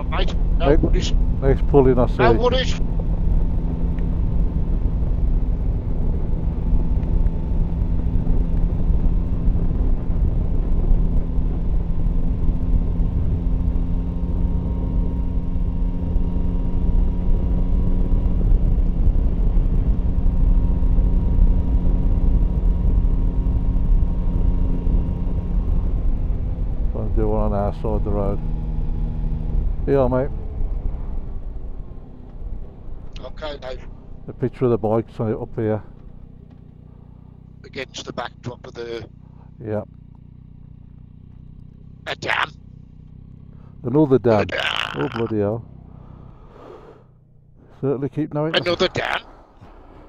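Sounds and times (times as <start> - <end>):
motorcycle engine cruising: 0.0 - 50.0
wind and road noise: 0.0 - 50.0.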